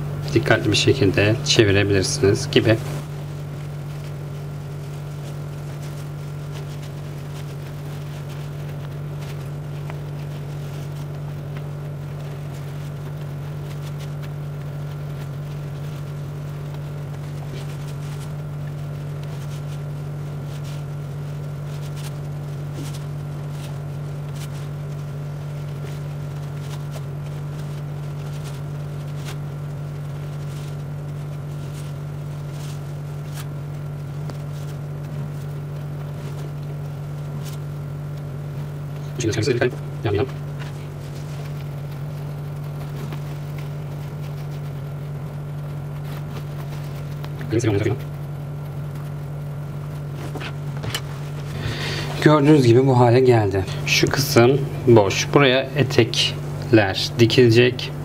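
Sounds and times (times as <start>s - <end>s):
fabric rustling and scraping: 0.0s - 58.0s
steady low hum: 0.0s - 58.0s.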